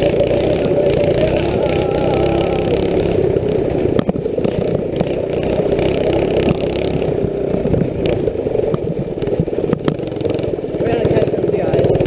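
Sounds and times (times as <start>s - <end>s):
go-kart engine under throttle: 0.0s - 12.0s.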